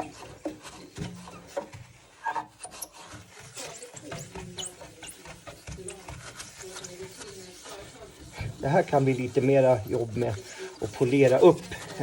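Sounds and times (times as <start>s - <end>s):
paper towel wiping glass: 0.0s - 12.0s
small scrapes and squeaks: 0.0s - 12.0s.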